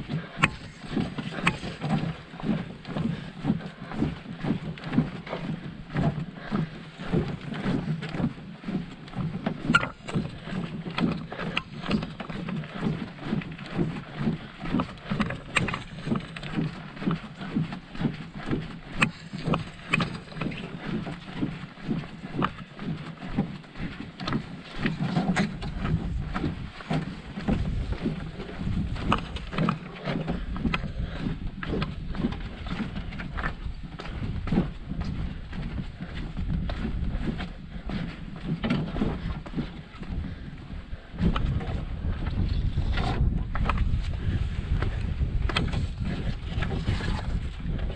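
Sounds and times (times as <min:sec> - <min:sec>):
paddle strokes splashing water: 0:00.0 - 0:47.9.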